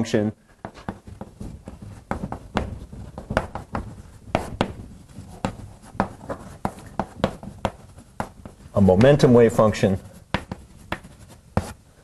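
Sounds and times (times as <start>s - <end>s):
chalk tapping and scratching: 0.6s - 11.9s.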